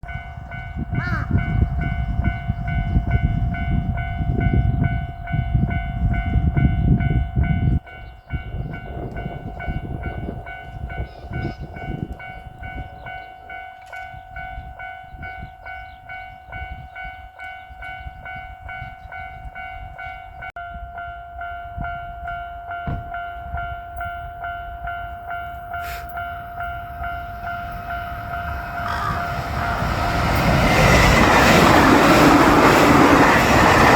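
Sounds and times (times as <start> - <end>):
heavy low train rumble: 0.0 - 33.9
level-crossing electronic bell: 0.1 - 33.9.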